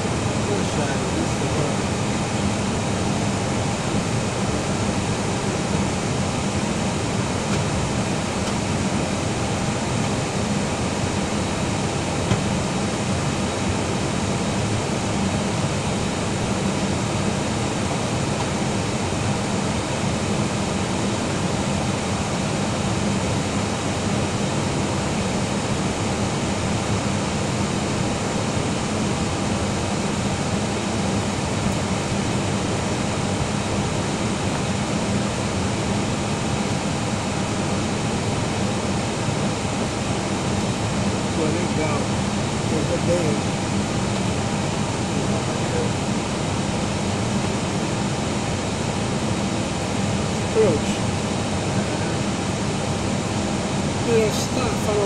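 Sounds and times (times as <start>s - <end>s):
airliner cabin noise: 0.0s - 55.0s.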